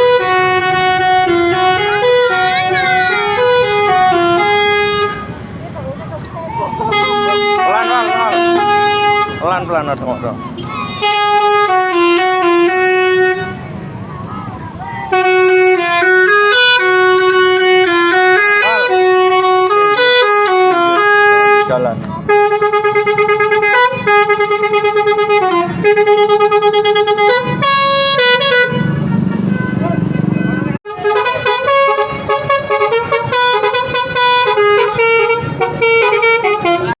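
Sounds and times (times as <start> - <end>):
bus air horn melody: 0.0 - 5.5, 6.8 - 9.9, 10.5 - 13.8, 15.1 - 37.0.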